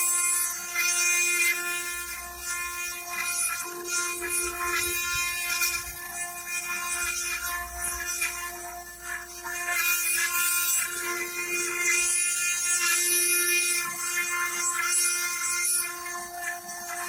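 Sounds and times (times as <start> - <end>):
bit cutting stone hiss: 0.0 - 17.0
engraving machine spindle whine: 0.0 - 17.0.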